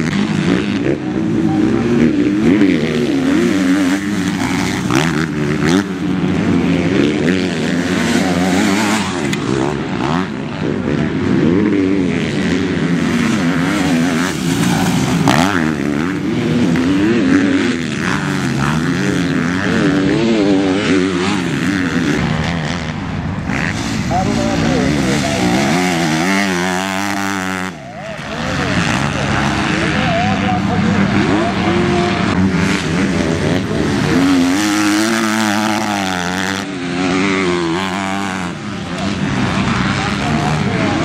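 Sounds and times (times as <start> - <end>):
motocross motorcycles racing: 0.0 - 41.0.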